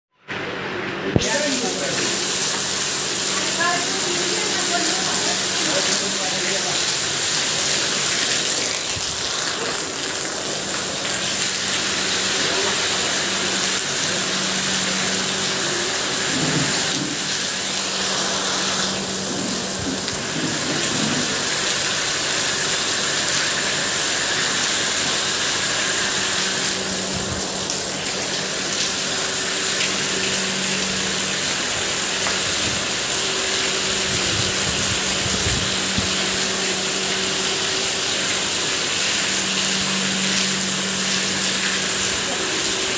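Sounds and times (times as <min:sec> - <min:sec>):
heavy rain on paving: 0:00.9 - 0:42.9.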